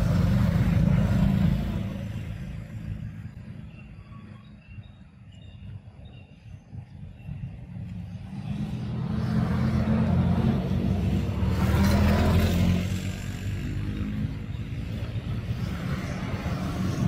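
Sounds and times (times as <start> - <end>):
vehicle engine hum passing: 0.0 - 4.8, 5.8 - 17.0.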